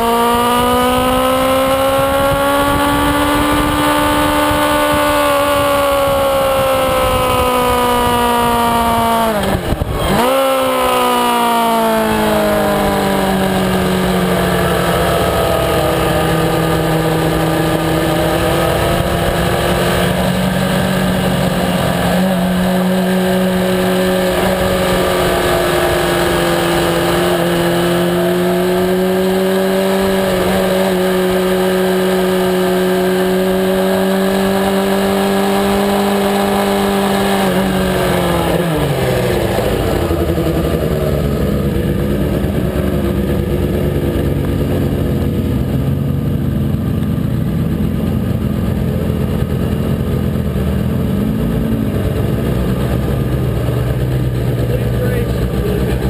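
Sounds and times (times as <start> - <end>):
wind noise on microphone: 0.0 - 54.4
motorcycle engine running: 0.0 - 56.0.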